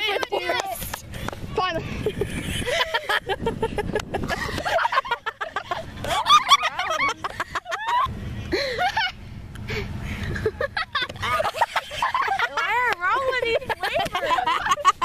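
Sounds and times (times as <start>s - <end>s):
girls laughing and squealing: 0.0s - 1.1s, 1.8s - 9.2s, 9.8s - 15.0s.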